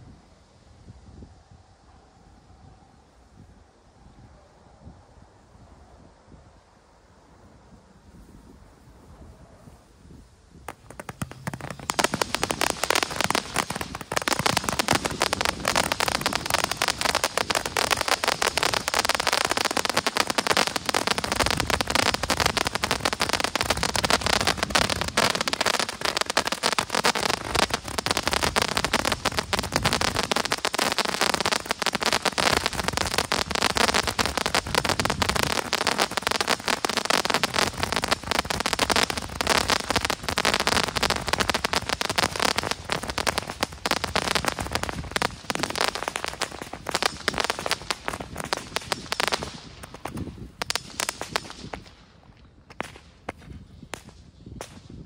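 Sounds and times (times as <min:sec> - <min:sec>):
ground firework crackling: 0:10.5 - 0:55.0.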